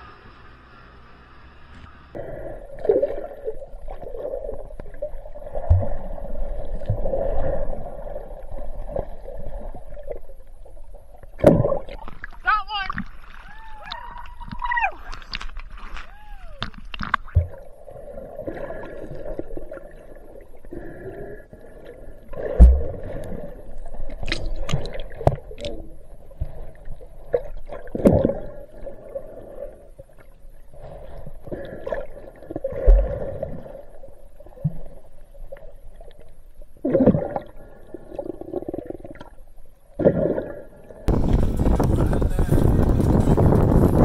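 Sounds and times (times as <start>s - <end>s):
underwater sloshing and gurgling: 0.0s - 43.6s.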